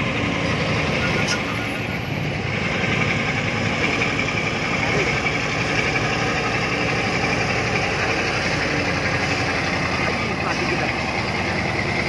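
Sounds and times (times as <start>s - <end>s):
truck diesel engine at low revs: 0.0s - 12.0s.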